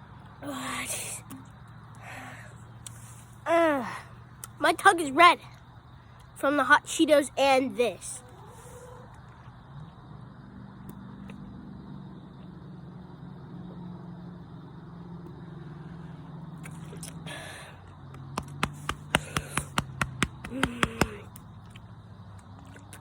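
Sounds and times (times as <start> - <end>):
steady low hum: 0.0 - 22.4.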